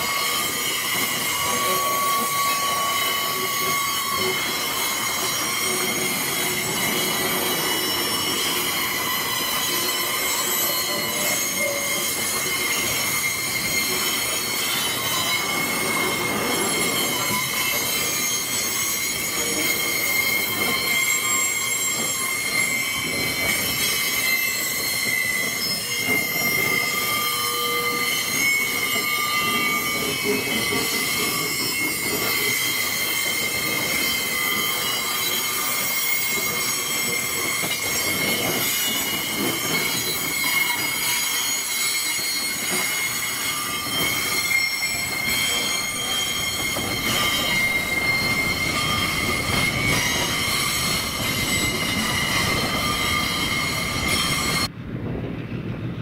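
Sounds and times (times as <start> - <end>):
train wheels squealing: 0.0 - 54.8
train rumble: 0.0 - 56.0.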